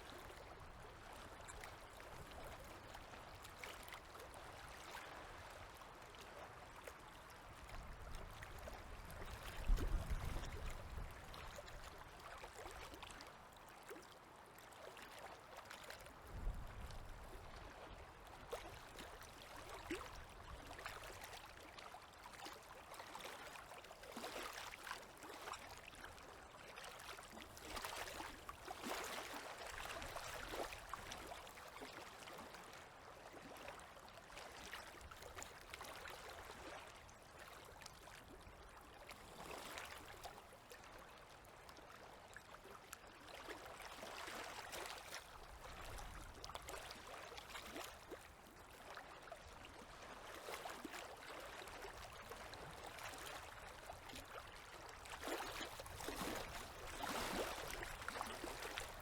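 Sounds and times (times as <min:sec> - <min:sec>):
small waves lapping and splashing: 0:00.0 - 0:59.0.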